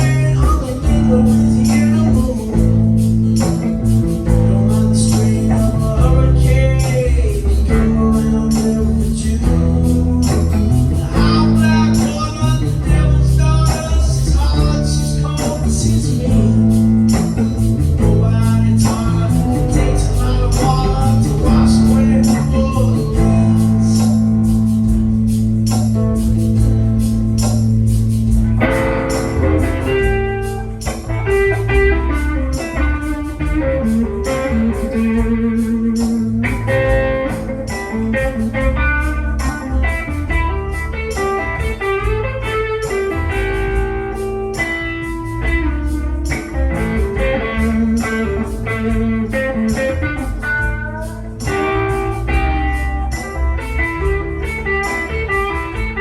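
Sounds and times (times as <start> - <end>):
blues-rock band playing: 0.0 - 56.0
lead guitar: 0.0 - 56.0.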